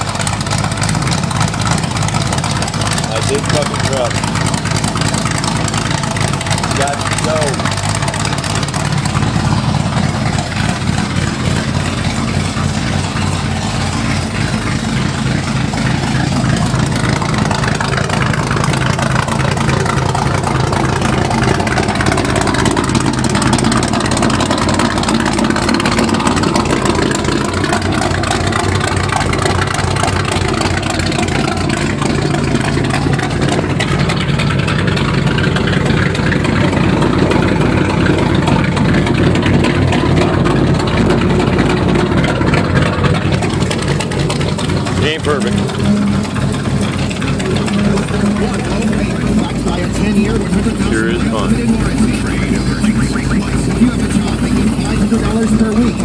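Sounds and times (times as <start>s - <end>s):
vee-eight engine idling: 0.0s - 56.0s.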